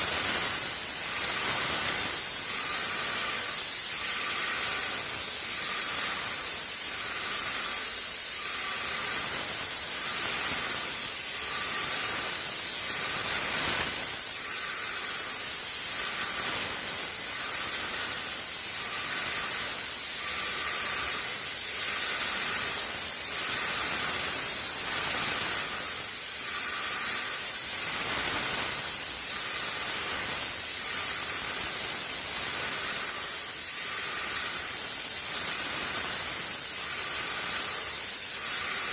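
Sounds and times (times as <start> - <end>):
paint sprayer hissing: 0.0 - 38.9.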